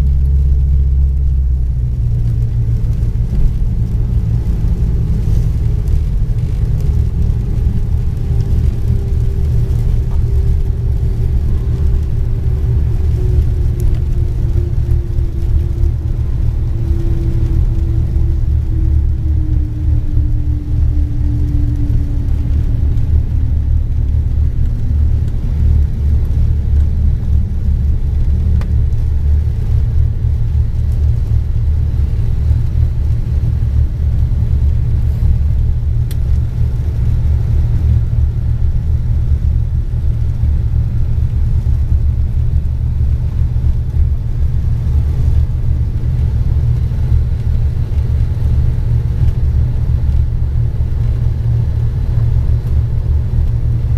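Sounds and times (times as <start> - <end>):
propeller plane engines droning: 0.0 - 53.9.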